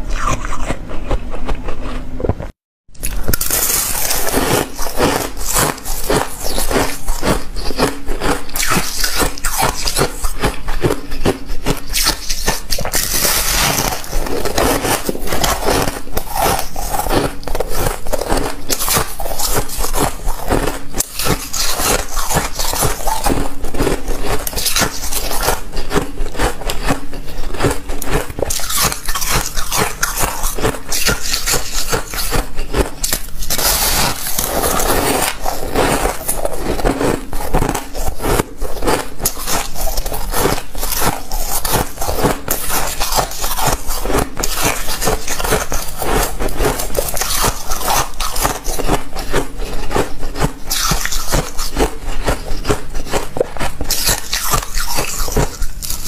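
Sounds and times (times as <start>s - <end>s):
ice being chewed crunching: 0.0s - 56.0s.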